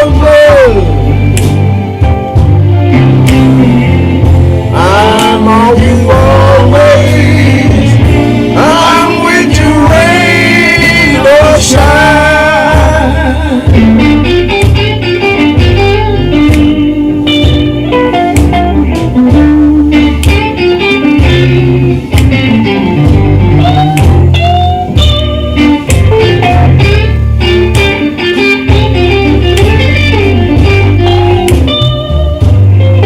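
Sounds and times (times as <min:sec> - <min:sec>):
bass and drums: 0:00.0 - 0:33.0
blues guitar with bent notes: 0:00.0 - 0:33.0.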